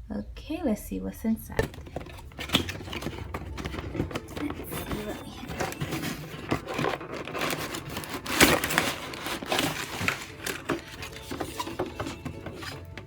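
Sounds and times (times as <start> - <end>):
packaging crinkling: 1.6 - 13.0.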